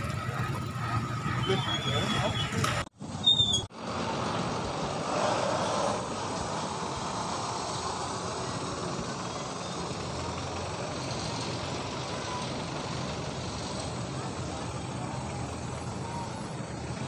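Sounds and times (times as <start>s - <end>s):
bus diesel engine rumble: 0.0s - 17.0s
road traffic noise: 0.0s - 17.0s.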